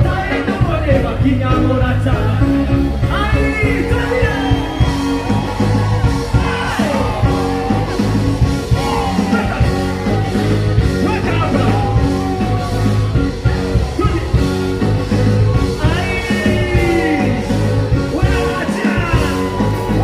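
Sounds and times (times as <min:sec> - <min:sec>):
person singing: 0:00.0 - 0:12.9, 0:15.7 - 0:20.0
bass line: 0:00.0 - 0:20.0
drum beats: 0:00.0 - 0:20.0.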